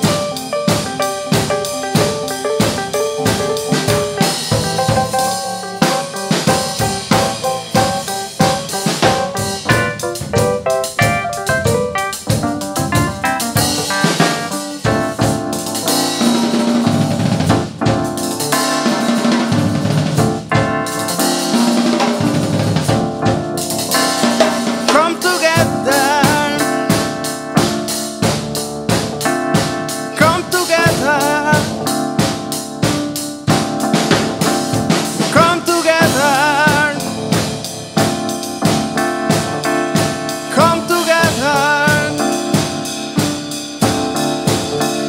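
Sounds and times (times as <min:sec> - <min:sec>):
drum kit beat: 0:00.0 - 0:45.0
keyboard chords: 0:00.0 - 0:45.0.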